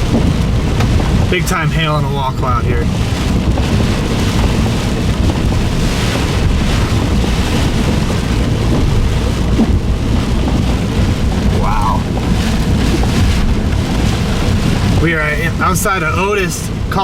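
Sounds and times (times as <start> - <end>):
storm wind buffeting microphone: 0.0 - 17.0
hail falling: 2.8 - 16.5.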